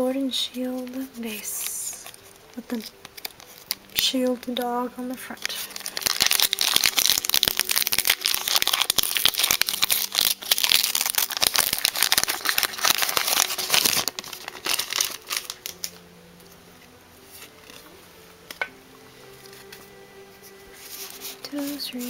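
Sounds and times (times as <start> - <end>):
foil wrapper crinkling: 0.6 - 16.1, 17.2 - 22.0.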